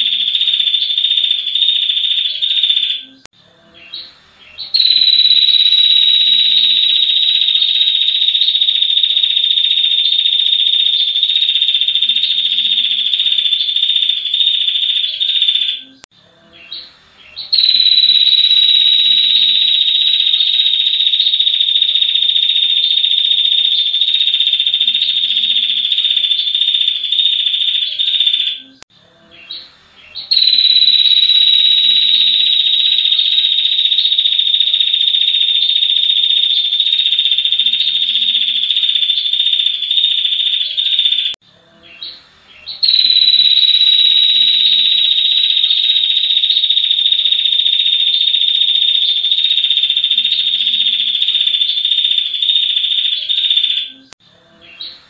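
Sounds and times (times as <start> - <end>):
bird long even trill: 0.0 - 54.8.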